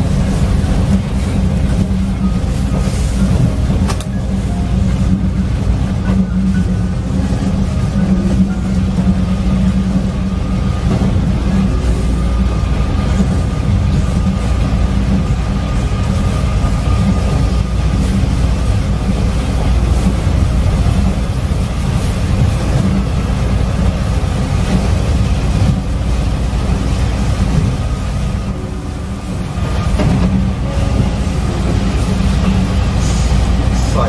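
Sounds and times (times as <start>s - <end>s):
rumble of train wheels on rails: 0.0s - 34.0s.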